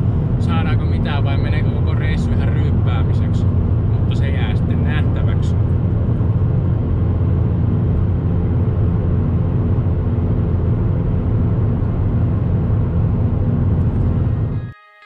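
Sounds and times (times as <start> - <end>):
car low rumble: 0.0 - 14.6
faint steady hum: 0.0 - 14.7.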